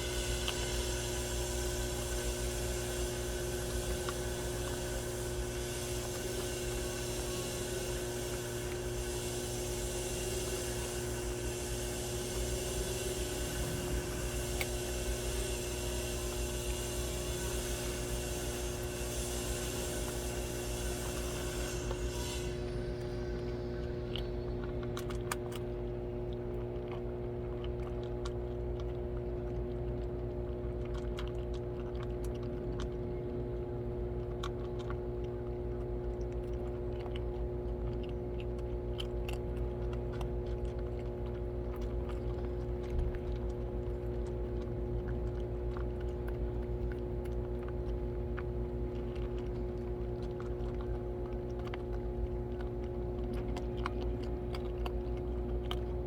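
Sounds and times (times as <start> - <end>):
cats chewing food: 0.0 - 56.0
steady mechanical hum: 0.0 - 56.0.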